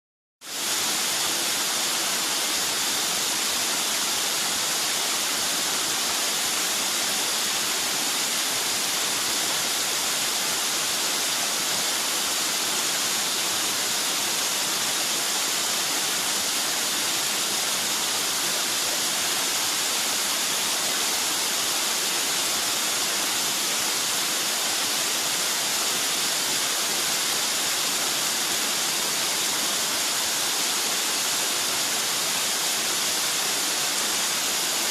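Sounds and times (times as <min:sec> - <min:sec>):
mountain stream rushing: 0:00.5 - 0:34.9.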